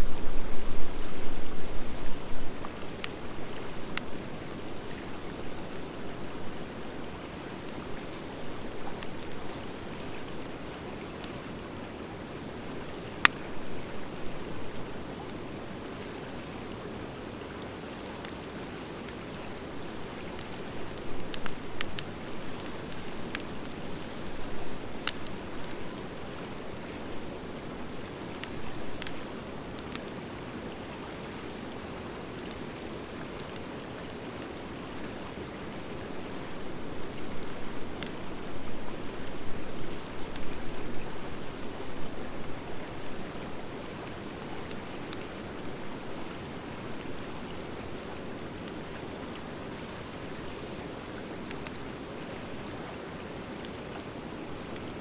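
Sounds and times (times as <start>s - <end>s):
campfire crackling and hissing: 0.0s - 55.0s.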